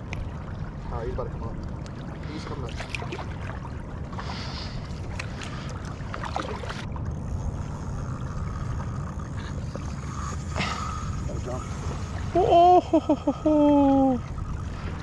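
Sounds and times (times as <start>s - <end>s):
light water sounds: 0.0s - 15.0s.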